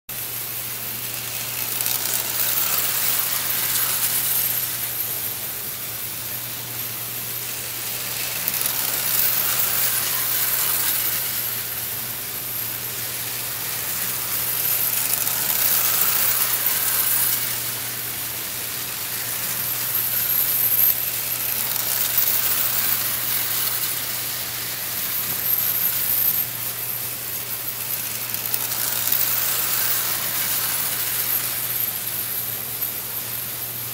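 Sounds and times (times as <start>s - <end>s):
toy train rattling on track: 0.1s - 33.9s.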